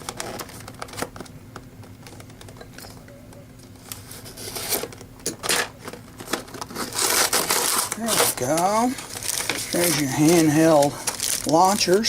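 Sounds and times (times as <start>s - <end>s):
packaging clicks and rustling: 0.0s - 3.0s, 3.8s - 12.0s.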